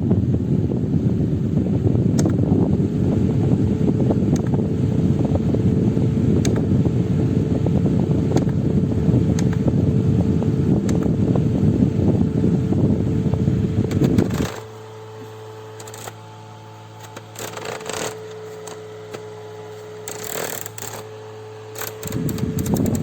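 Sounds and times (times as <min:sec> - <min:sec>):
fan blowing air rush: 0:00.0 - 0:23.0
low steady hum: 0:00.0 - 0:23.0.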